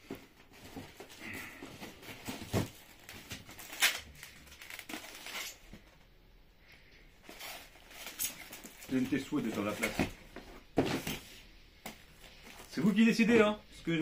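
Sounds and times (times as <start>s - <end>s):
cardboard and packaging rustling: 0.0s - 6.1s, 7.2s - 13.6s.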